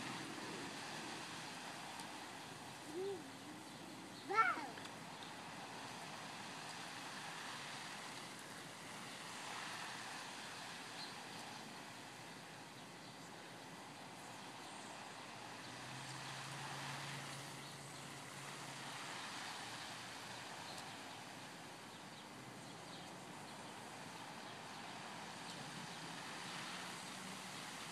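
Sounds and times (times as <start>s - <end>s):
water hissing from lawn sprinkler: 0.0s - 27.9s.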